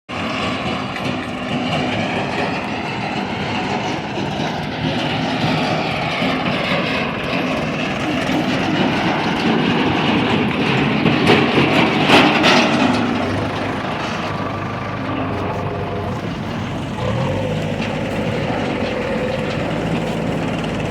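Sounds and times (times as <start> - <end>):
loader diesel engine running: 0.1 - 20.9
tractor engine running: 0.1 - 20.9.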